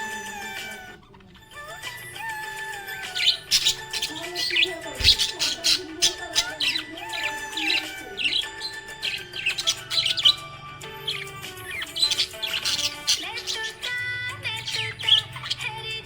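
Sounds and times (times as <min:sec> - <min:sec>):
background music: 0:00.0 - 0:16.0
budgerigars chirping: 0:00.0 - 0:16.0.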